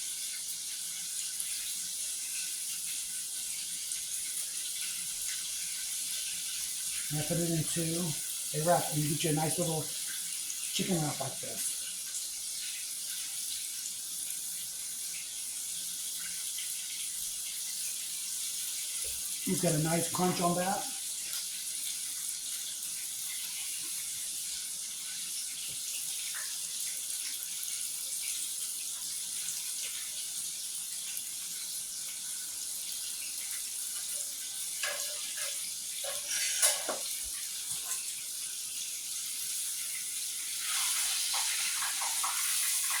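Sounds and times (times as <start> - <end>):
chicken sizzling in hot oil: 0.0 - 43.0.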